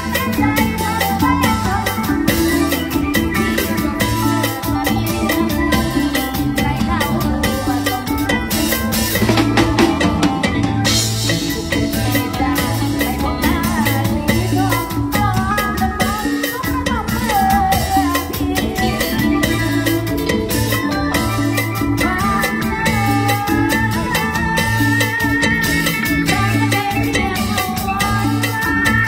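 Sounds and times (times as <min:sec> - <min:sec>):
band music with drums and bass: 0:00.0 - 0:29.0.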